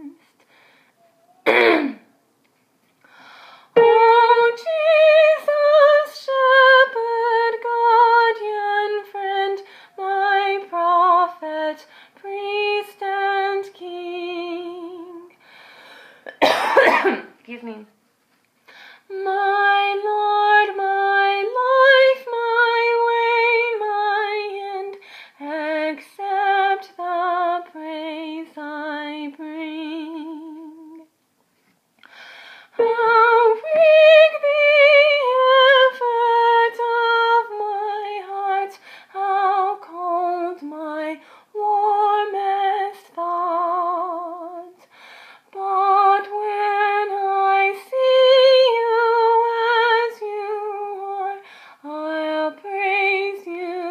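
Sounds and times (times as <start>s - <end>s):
woman singing a hymn a cappella: 0.0s - 0.7s, 3.2s - 15.5s, 18.7s - 31.1s, 32.0s - 53.9s.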